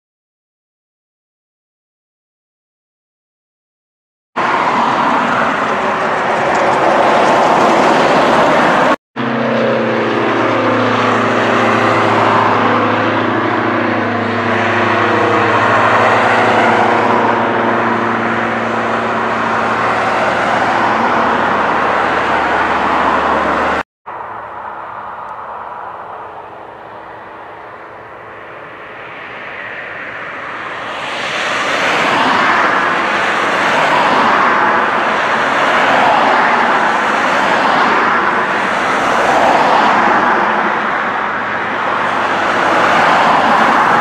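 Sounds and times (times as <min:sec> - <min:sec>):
propeller aircraft droning overhead: 0:04.4 - 0:44.0
steady rushing noise: 0:04.4 - 0:44.0.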